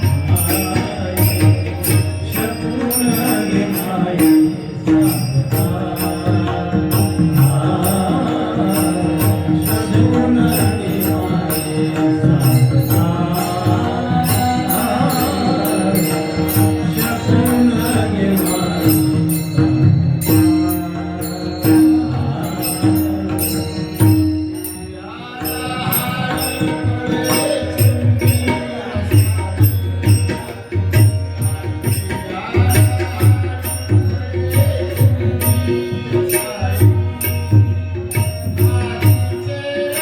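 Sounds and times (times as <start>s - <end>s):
devotional song with instruments: 0.0s - 40.0s.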